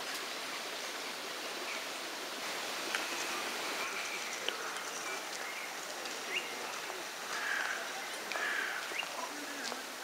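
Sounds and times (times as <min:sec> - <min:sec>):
outdoor hiss: 0:00.0 - 0:10.0.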